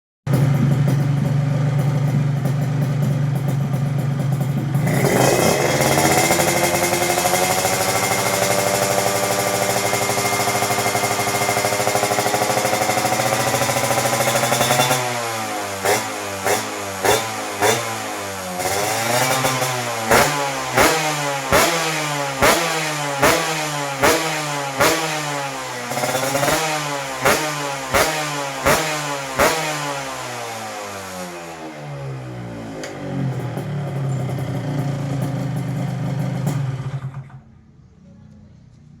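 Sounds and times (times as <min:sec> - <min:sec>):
motorcycle engine revving: 0:00.3 - 0:38.0.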